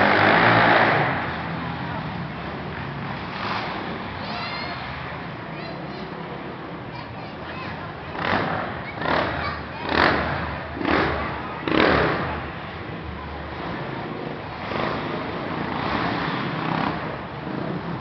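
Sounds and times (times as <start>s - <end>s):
quad engines revving: 0.0s - 5.3s, 7.6s - 18.0s.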